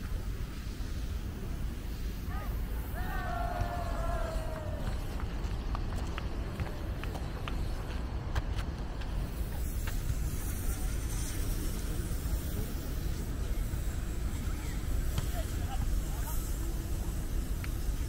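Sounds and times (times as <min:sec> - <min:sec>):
low rumble of outdoor background: 0:00.0 - 0:18.0.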